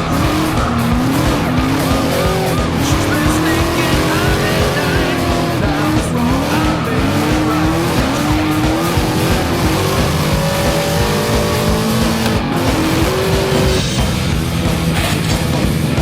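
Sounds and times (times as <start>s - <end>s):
tires skidding and squealing: 0.0s - 15.9s
engines revving: 0.0s - 16.0s.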